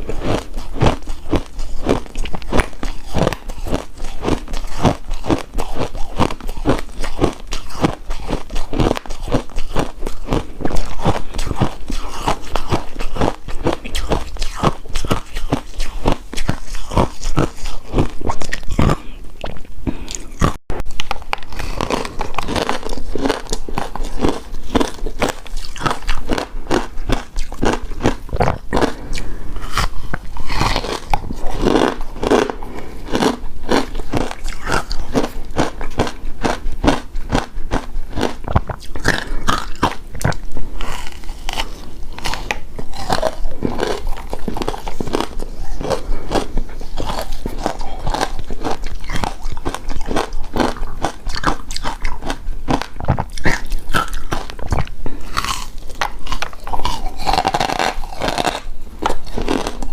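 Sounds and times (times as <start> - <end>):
crunching and chewing ice: 0.0 - 59.9.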